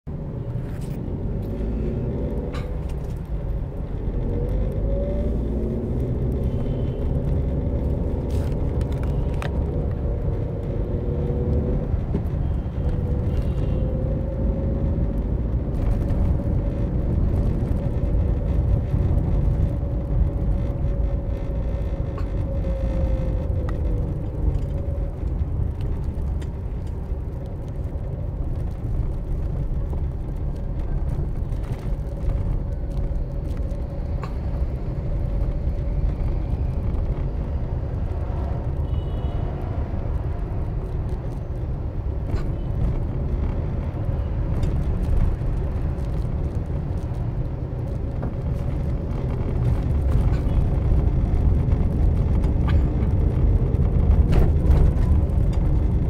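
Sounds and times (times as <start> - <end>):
vehicle road noise rumble: 0.0 - 56.0.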